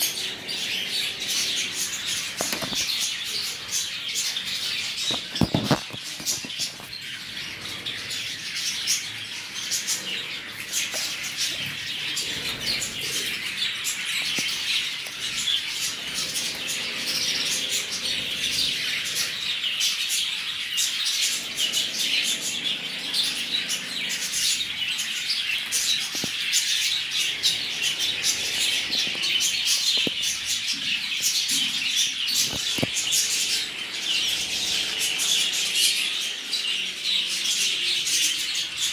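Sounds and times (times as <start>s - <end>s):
finches chirping: 0.0s - 38.9s.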